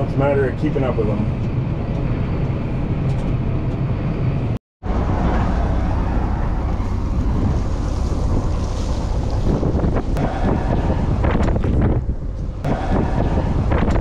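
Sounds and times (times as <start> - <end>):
low rumble of farm machinery: 0.0 - 14.0
tractor engine running: 0.0 - 14.0
wind on microphone: 1.3 - 14.0.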